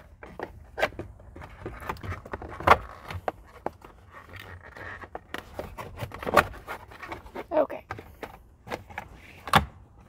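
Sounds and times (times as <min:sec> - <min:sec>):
plastic parts clicking and knocking: 0:00.0 - 0:10.0.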